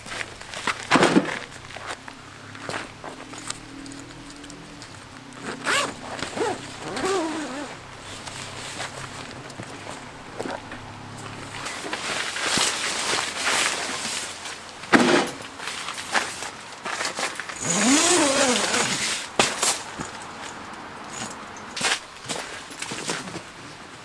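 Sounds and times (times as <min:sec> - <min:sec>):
gear rustling: 0:00.0 - 0:20.5.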